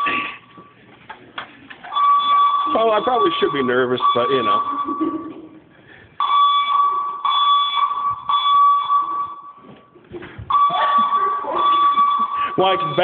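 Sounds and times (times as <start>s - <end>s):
fire alarm pulsing tone: 1.8s - 5.6s, 6.2s - 13.0s.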